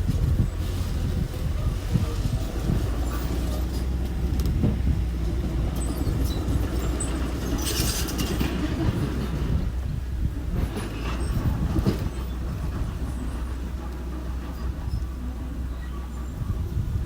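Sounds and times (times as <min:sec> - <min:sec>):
earthmoving machine engine rumbling: 0:00.0 - 0:17.0.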